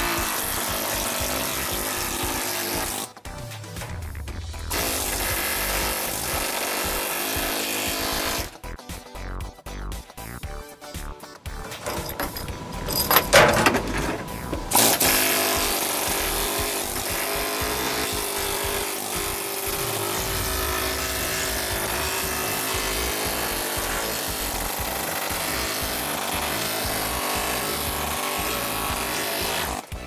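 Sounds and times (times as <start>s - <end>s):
air chisel hammering sheet metal: 0.0s - 3.1s, 4.7s - 8.5s, 11.6s - 29.9s.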